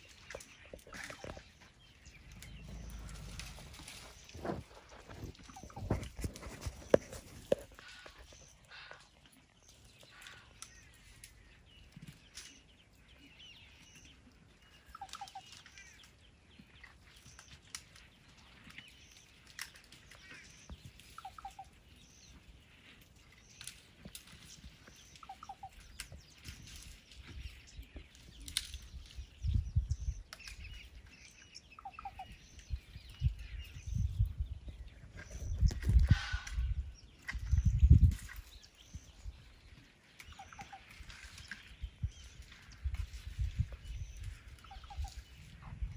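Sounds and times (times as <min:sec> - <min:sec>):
chirping bird calls: 0:00.0 - 0:45.9.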